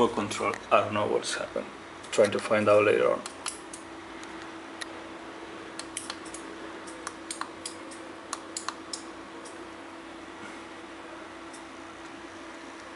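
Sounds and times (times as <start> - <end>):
faint electrical hum: 0.0 - 12.9.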